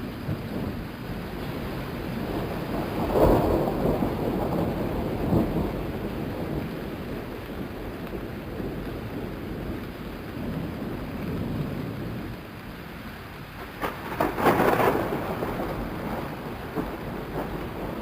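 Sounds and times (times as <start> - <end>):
crackling thunderclap: 0.0 - 12.8, 13.4 - 18.0
rumbling thunder: 0.0 - 12.8, 13.6 - 18.0
steady rain: 0.0 - 18.0.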